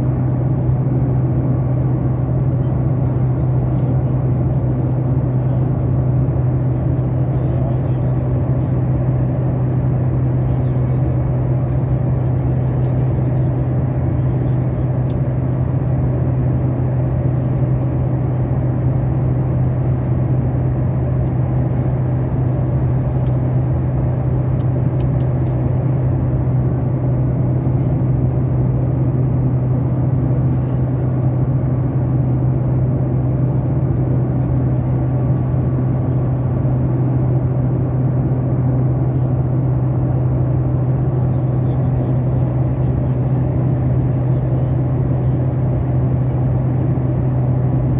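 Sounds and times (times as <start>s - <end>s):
airliner cabin engine noise: 0.0s - 47.9s
constant low hum: 0.0s - 47.9s.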